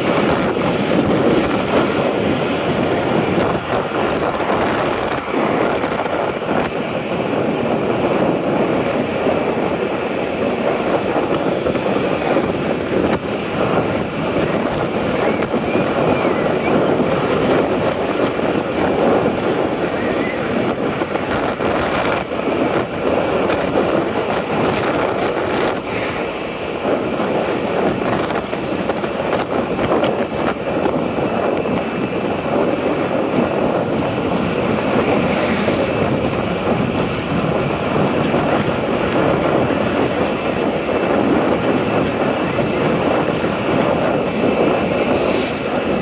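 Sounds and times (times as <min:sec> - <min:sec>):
wind rushing: 0:00.0 - 0:46.0.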